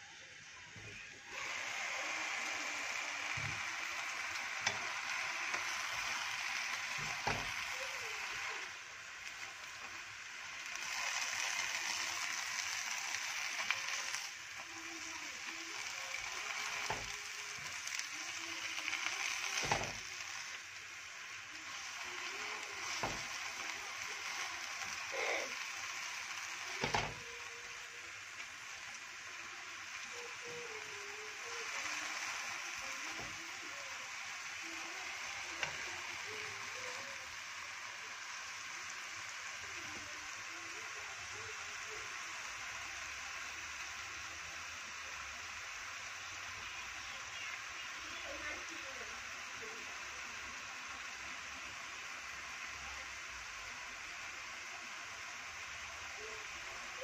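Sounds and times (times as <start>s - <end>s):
spinach sizzling in a wok: 0.0s - 57.0s.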